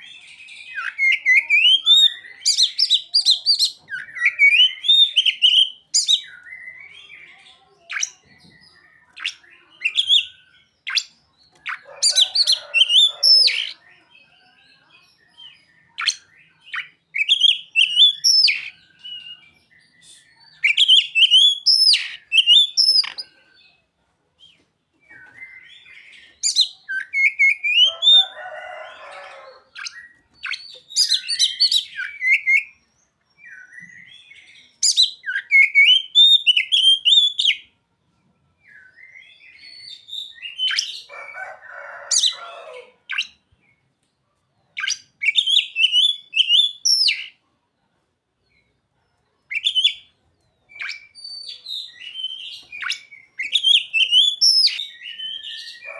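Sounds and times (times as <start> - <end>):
songbird whistling song: 0.0 - 13.8, 15.2 - 23.3, 24.4 - 28.3, 29.2 - 37.7, 38.6 - 41.1, 41.9 - 43.8, 44.8 - 47.4, 49.5 - 55.9.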